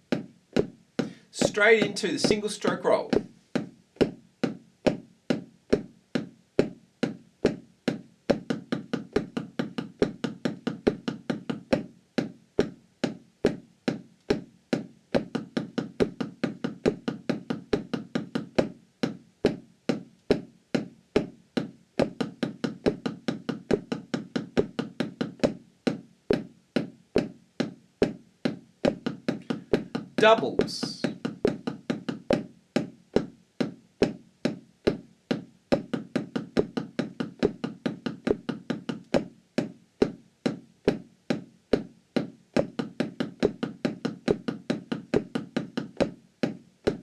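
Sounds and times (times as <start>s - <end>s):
drumsticks tapping practice pad: 0.0s - 47.0s.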